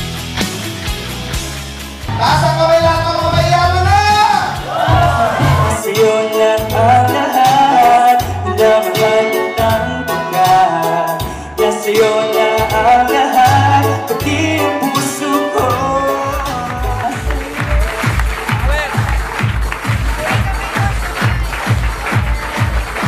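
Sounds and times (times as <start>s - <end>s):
backing music with bass: 0.0s - 23.0s
person singing: 2.1s - 19.4s, 20.1s - 23.0s.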